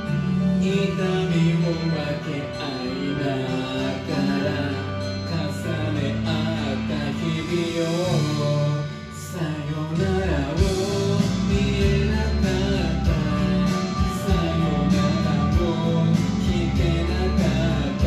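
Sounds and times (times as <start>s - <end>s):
band backing track: 0.0s - 18.0s
man singing a pop ballad: 0.0s - 18.0s.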